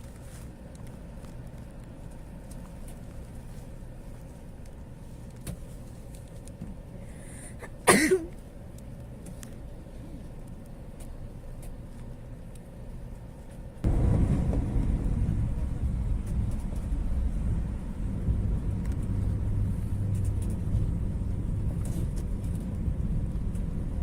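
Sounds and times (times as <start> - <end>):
low rumble of train: 0.0 - 24.0.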